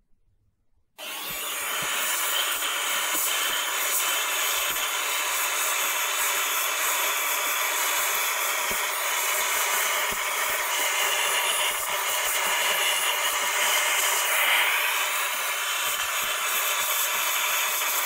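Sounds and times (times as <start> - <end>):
vacuum cleaner running: 1.0 - 18.0.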